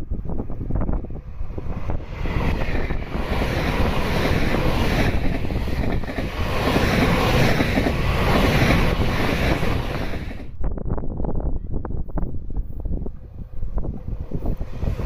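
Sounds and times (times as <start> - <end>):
train wheels rumbling on rail: 0.0 - 10.8, 11.8 - 15.0
wind buffeting microphone: 0.0 - 15.0.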